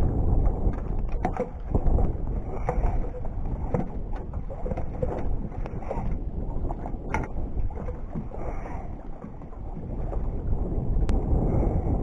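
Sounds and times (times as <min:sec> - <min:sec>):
knocks and rustles on dock: 0:00.0 - 0:11.8
wind buffeting microphone: 0:00.0 - 0:12.0.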